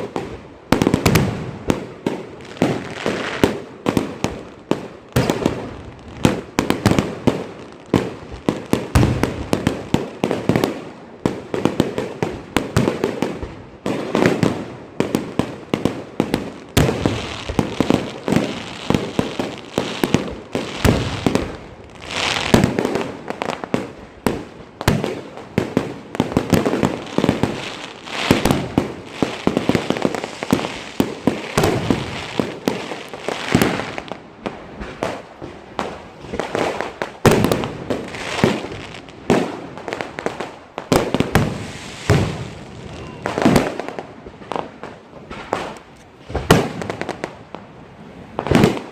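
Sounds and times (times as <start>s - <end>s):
fireworks and firecrackers banging: 0.0s - 48.9s.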